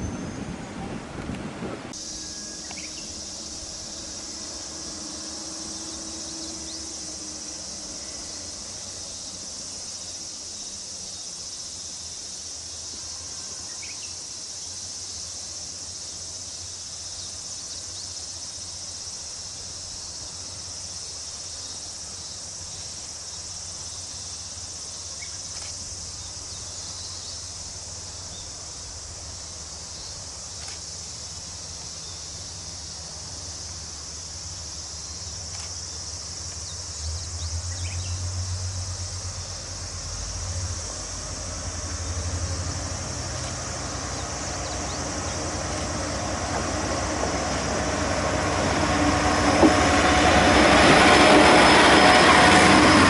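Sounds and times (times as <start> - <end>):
insects buzzing: 1.9 - 53.0.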